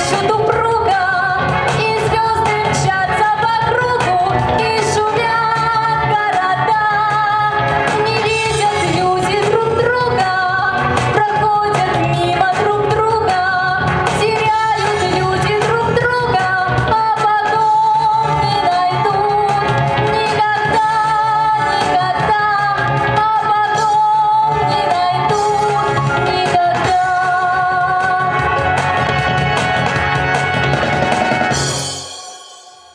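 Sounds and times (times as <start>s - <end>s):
woman singing into microphone: 0.0s - 28.8s
recorded backing track: 0.0s - 32.9s.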